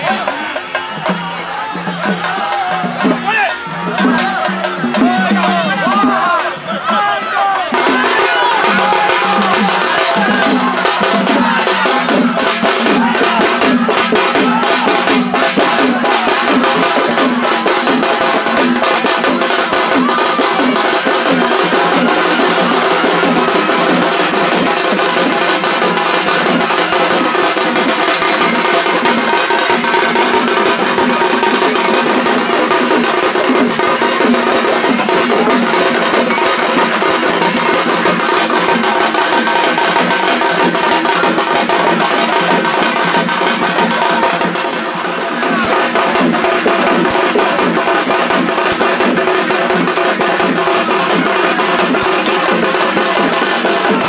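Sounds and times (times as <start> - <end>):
drums beating rapidly: 0.0 - 54.0.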